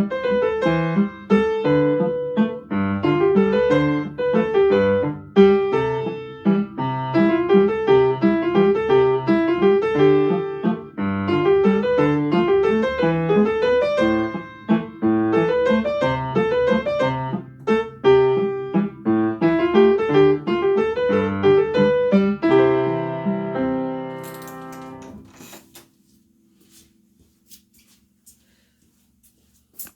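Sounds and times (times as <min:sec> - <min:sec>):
solo piano melody: 0:00.0 - 0:25.3.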